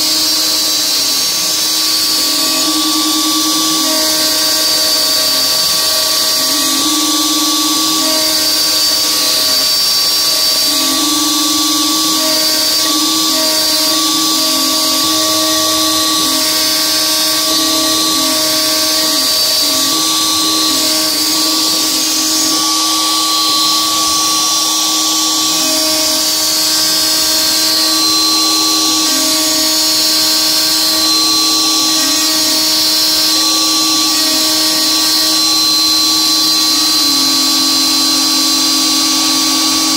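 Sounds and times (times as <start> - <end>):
cutting tone: 0.0 - 39.9
router high whine: 0.0 - 39.9.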